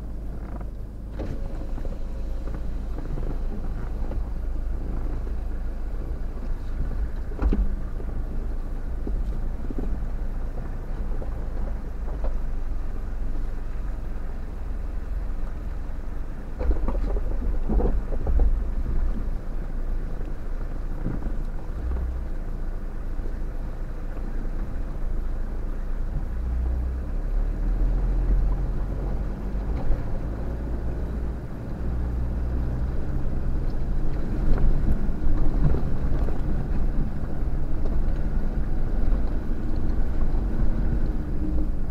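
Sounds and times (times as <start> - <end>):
vehicle engine running slowly: 0.0 - 41.9.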